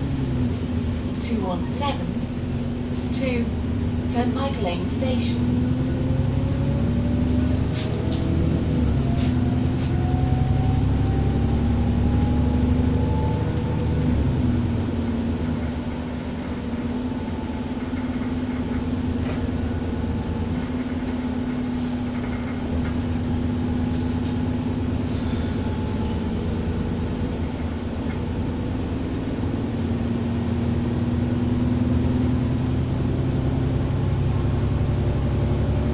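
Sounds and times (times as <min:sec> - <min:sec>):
bus engine thrashing: 0:00.0 - 0:35.9.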